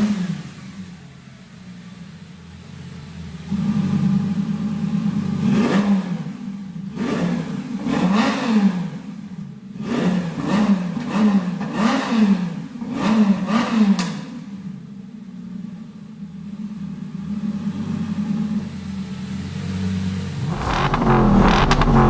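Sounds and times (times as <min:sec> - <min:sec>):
car engine revving and idling: 0:00.0 - 0:14.3, 0:14.9 - 0:22.0.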